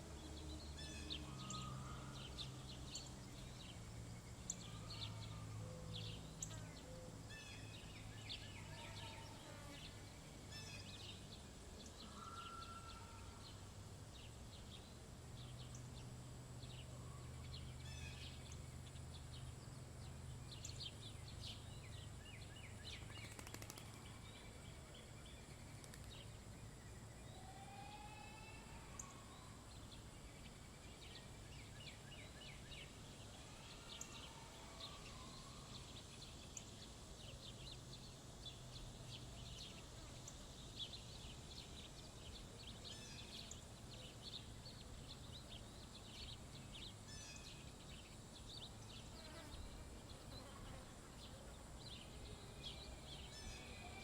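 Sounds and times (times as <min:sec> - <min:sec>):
faint low hum: 0:00.0 - 0:54.0
songbirds chirping: 0:00.0 - 0:54.0.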